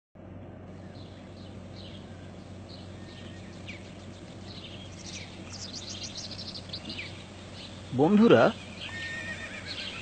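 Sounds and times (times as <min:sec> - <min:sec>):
steady low hum: 0:00.2 - 0:08.9
birds chirping and trilling: 0:00.7 - 0:10.0.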